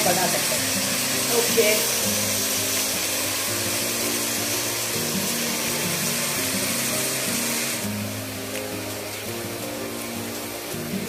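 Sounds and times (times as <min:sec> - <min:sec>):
instrumental music with sustained notes: 0:00.0 - 0:11.0
steady hiss: 0:00.0 - 0:11.0.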